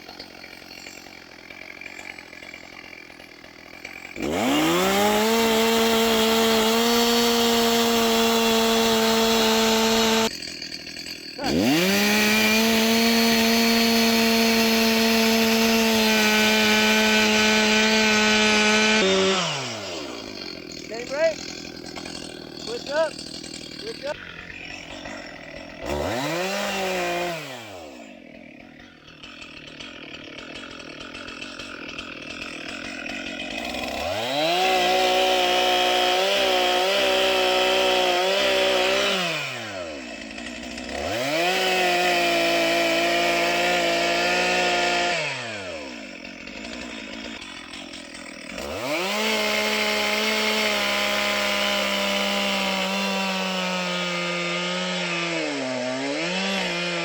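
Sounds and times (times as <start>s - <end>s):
chainsaw revving and cutting wood: 0.0s - 57.0s.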